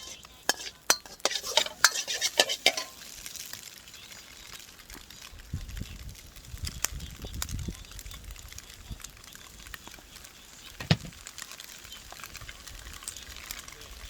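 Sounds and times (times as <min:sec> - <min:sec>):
cooking in a wok over a fire: 0:00.0 - 0:14.0.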